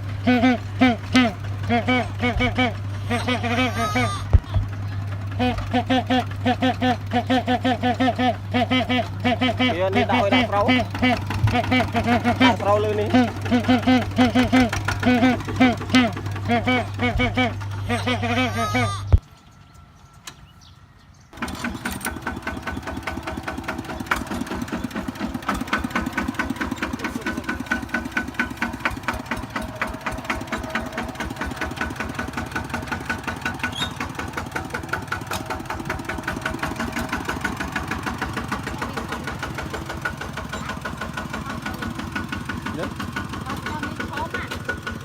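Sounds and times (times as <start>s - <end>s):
tractor diesel engine knocking: 0.0s - 19.2s, 21.4s - 45.0s.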